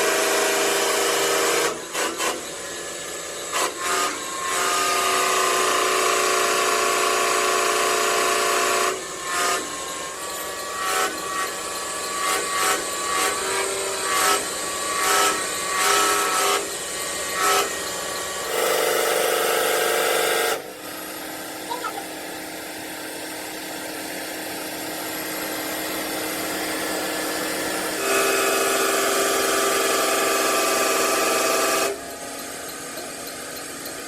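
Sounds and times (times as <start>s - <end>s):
power tool whining: 0.0s - 34.0s.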